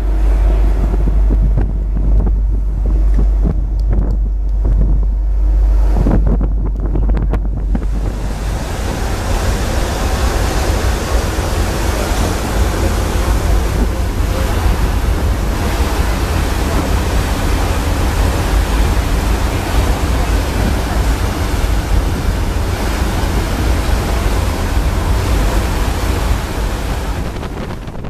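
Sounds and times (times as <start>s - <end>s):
low rumble: 0.0s - 28.0s
sea water rushing along hull: 0.0s - 28.0s
wind buffeting microphone: 0.0s - 28.0s.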